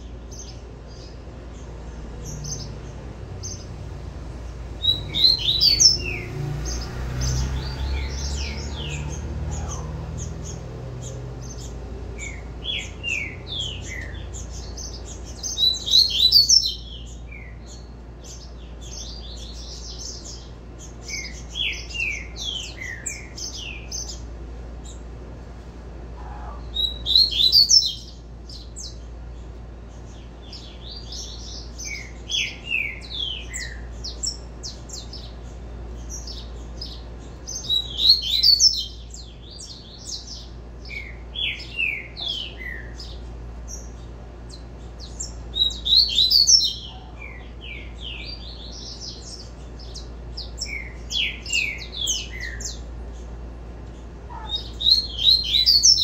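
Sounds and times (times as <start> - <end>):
seedeater bird singing: 0.0 - 56.0.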